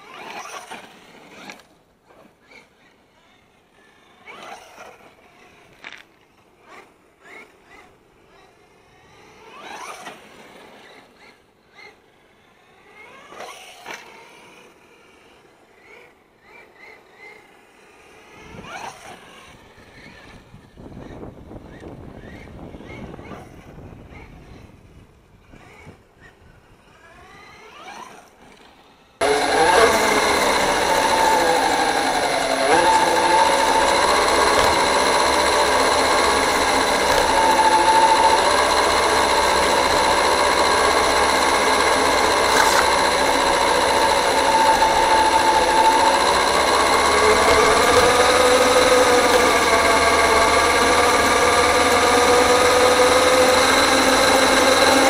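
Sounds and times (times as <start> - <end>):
rc truck motor whine: 0.0 - 55.0.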